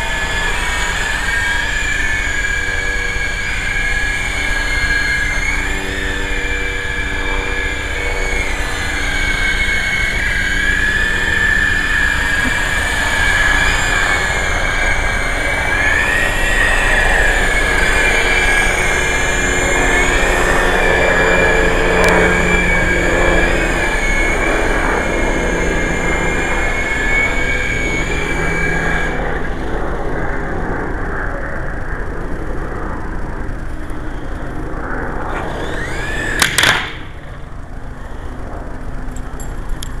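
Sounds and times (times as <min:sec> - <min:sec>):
toy helicopter motors whining: 0:00.0 - 0:40.0.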